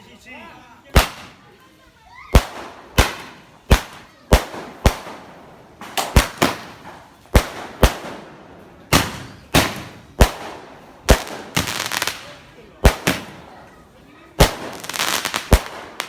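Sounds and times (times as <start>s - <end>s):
fireworks bangs echoing: 0.9s - 16.0s.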